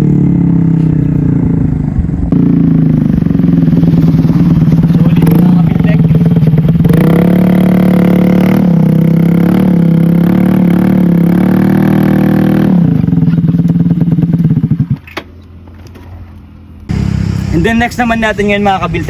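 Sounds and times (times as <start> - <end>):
motorcycle engine revving: 0.0 - 15.2, 16.9 - 19.0.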